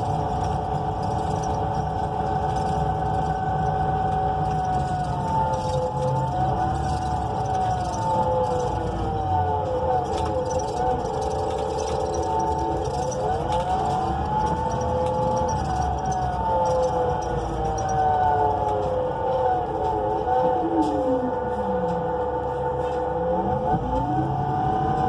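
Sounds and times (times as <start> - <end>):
bus drivetrain whine: 0.0 - 25.0
low engine rumble: 0.0 - 25.0.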